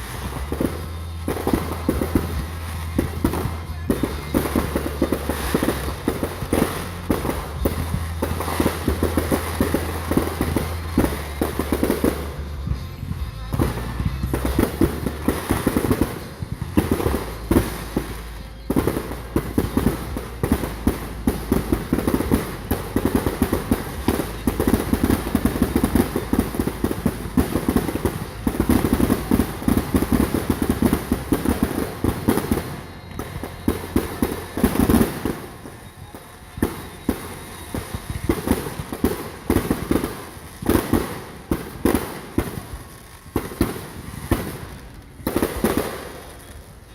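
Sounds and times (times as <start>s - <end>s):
low bass notes: 0.0s - 46.0s
fireworks bangs and crackling: 0.0s - 46.9s.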